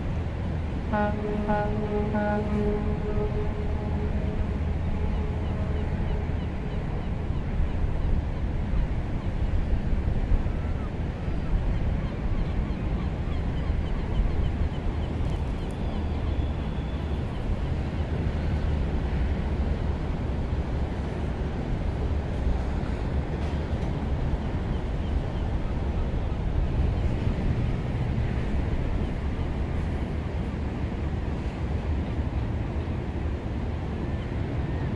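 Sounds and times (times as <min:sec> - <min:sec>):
ship engine rumbling: 0:00.0 - 0:12.4, 0:15.9 - 0:34.9.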